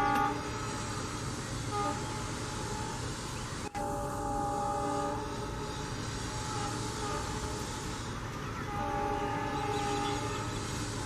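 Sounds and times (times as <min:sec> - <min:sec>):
locomotive horn: 0:00.0 - 0:11.0.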